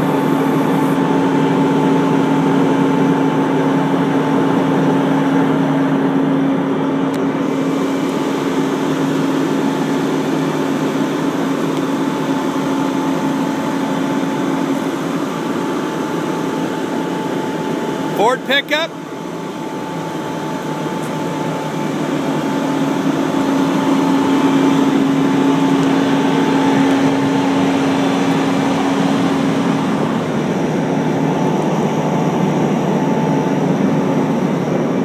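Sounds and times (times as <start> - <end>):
winch and truck engine humming: 0.0 - 35.0.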